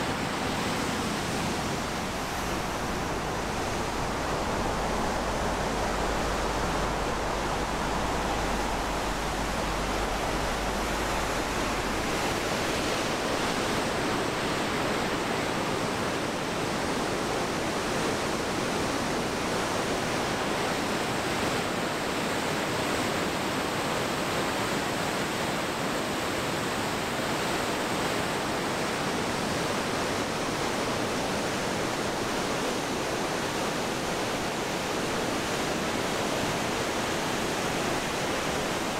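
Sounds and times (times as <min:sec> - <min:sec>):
water rushing through sluice gates: 0:00.0 - 0:38.9.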